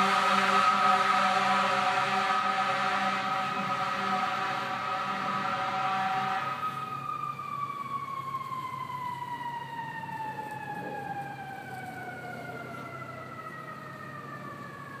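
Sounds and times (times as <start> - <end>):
siren winding down: 0.0 - 15.0.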